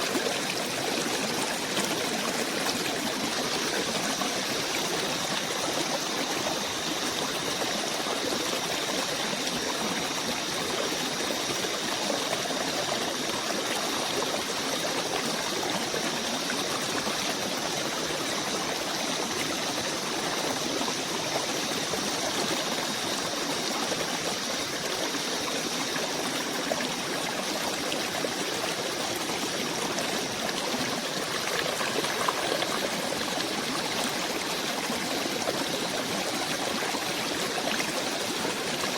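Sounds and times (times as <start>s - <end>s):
forest stream flowing: 0.0s - 38.9s.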